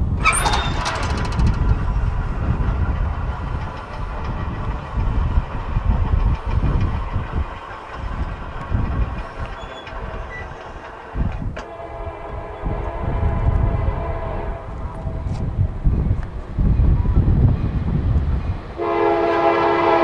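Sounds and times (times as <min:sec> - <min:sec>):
diesel locomotive engine rumbling: 0:00.0 - 0:20.0.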